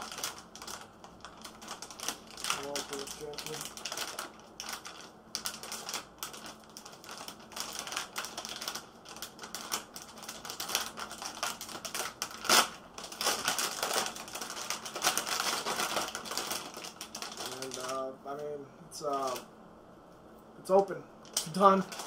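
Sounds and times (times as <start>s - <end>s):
knife cutting plastic packaging: 0.0s - 17.9s.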